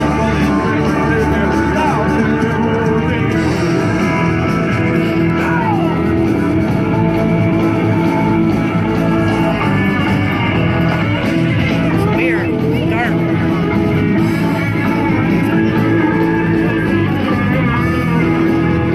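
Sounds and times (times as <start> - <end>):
rock music with guitar: 0.0 - 18.9.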